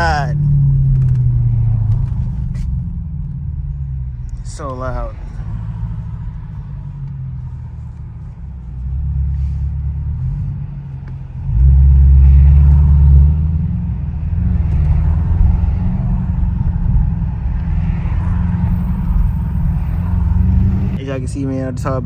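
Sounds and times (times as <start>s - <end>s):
car exhaust droning: 0.0s - 22.0s.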